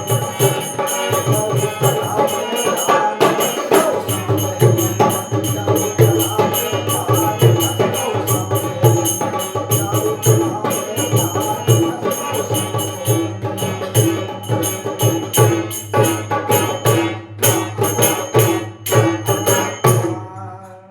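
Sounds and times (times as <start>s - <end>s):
jingling hand percussion: 0.0s - 20.9s.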